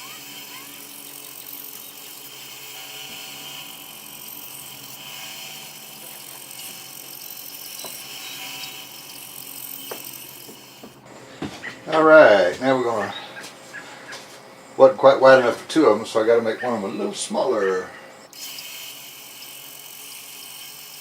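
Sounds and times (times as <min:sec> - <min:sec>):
power saw cutting wood: 0:00.0 - 0:13.0, 0:14.1 - 0:21.0.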